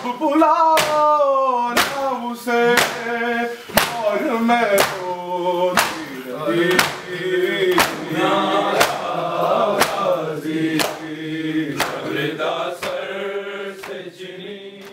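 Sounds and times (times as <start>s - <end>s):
men chanting in unison: 0.0s - 14.9s
hands slapping chests: 0.7s - 14.2s.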